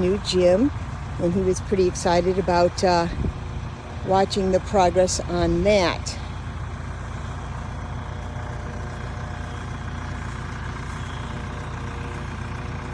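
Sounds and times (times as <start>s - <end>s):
large engine droning: 0.0s - 12.9s.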